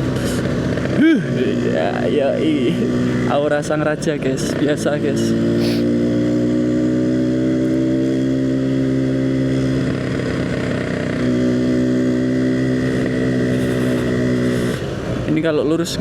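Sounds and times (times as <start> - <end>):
two-stroke motorcycle engine running: 0.0 - 15.4.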